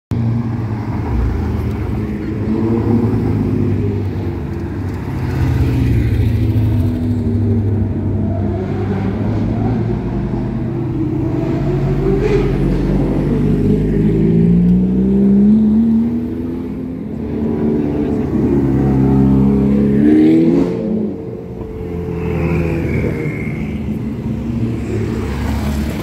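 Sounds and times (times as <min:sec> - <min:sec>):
car engines running: 0:00.1 - 0:26.0.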